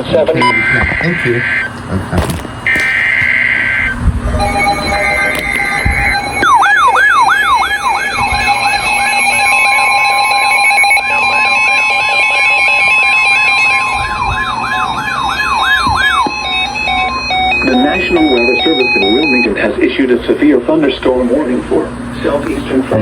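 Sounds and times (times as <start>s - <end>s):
electronic siren yelping: 0.0s - 1.8s, 2.6s - 19.7s
steady alarm tone: 0.0s - 22.4s.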